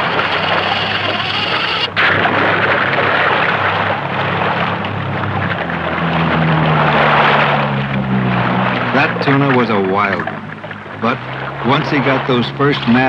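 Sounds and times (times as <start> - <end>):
outboard motor running: 0.0 - 13.0
rush of wind and water: 0.0 - 13.0.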